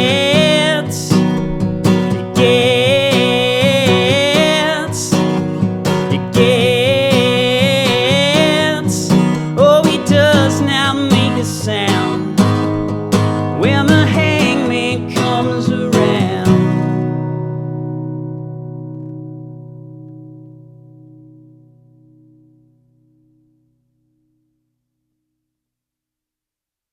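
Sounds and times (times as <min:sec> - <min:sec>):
acoustic guitar strumming: 0:00.0 - 0:24.5.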